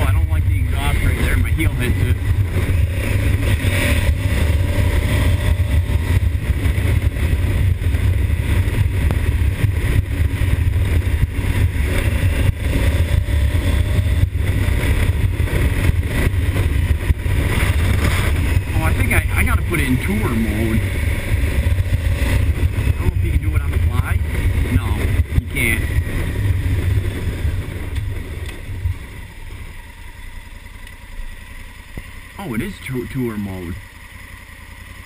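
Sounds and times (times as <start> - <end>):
wind rushing over microphone: 0.0 - 29.7
motorcycle engine running: 0.0 - 35.0.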